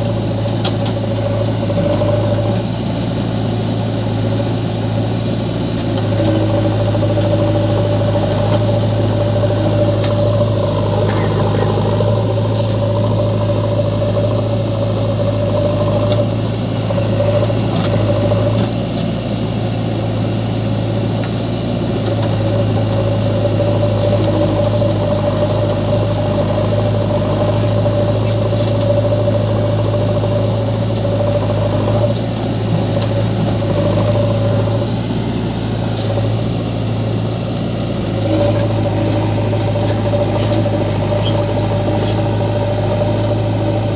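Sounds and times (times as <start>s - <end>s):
diesel engines running: 0.0s - 43.9s.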